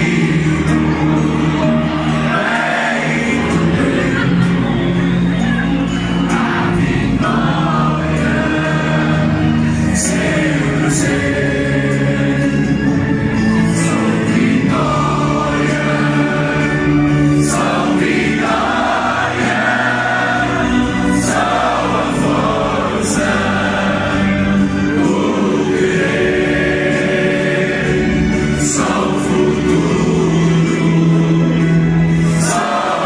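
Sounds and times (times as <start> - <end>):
stadium crowd chanting: 0.0 - 12.8, 13.8 - 33.0.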